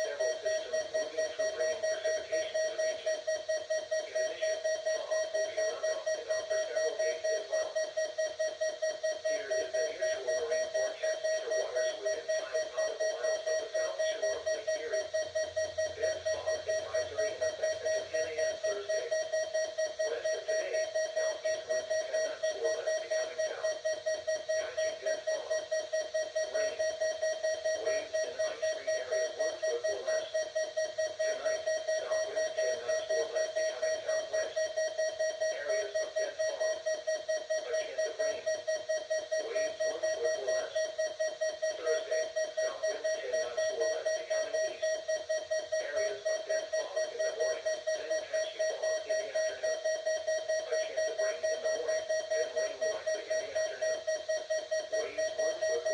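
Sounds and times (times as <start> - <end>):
rapid alarm beeps: 0.0 - 55.9.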